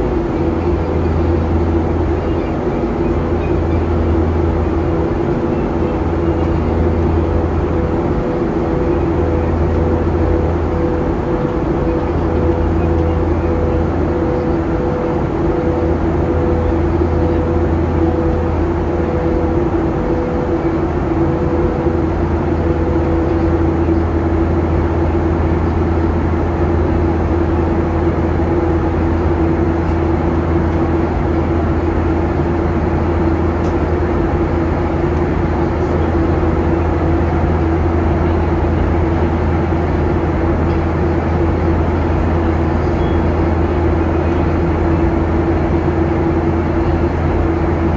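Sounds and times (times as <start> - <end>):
faint pulsing tone: 0.0 - 32.4, 34.2 - 47.9
jet engines droning: 0.0 - 47.9
low hum: 0.0 - 47.9.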